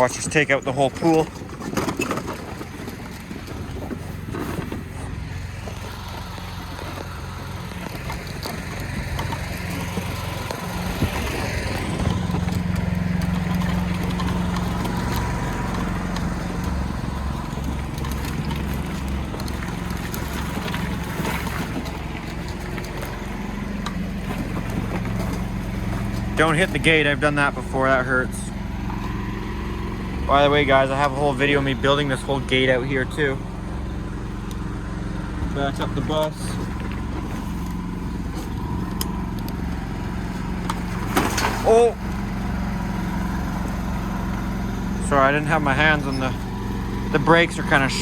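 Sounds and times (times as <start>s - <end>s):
small vehicle engine running: 0.0s - 48.0s.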